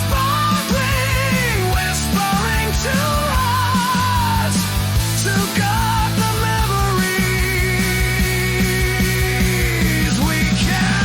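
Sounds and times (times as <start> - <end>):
drum beat: 0.0 - 11.0
rock song with electric guitars: 0.0 - 11.0.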